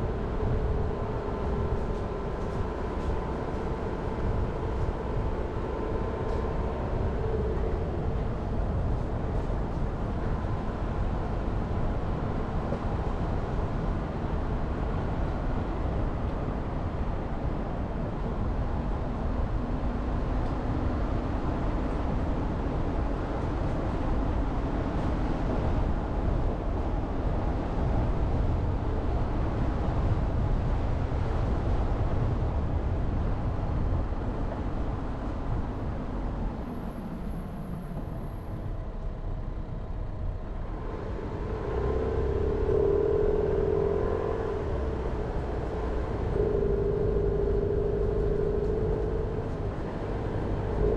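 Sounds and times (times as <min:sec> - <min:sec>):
car engine and tyre noise: 0:00.0 - 0:50.9.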